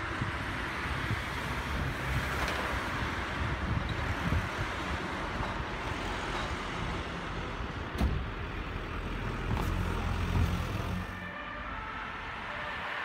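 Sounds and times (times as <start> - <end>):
vehicle engines running: 0.0 - 11.3.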